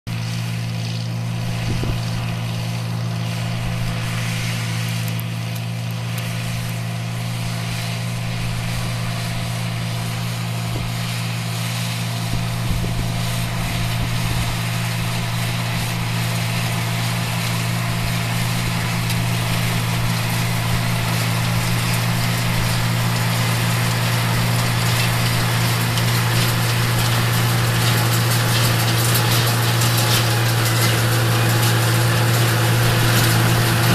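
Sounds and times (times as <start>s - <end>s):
tractor engine running: 0.0s - 33.9s
hay baler: 0.1s - 33.9s.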